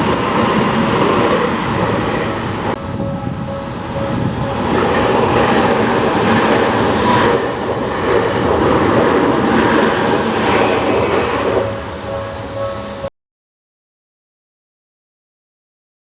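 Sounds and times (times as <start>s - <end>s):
faint crossing warning bell: 0.0s - 13.1s
train wheels rushing on rails: 0.0s - 13.1s.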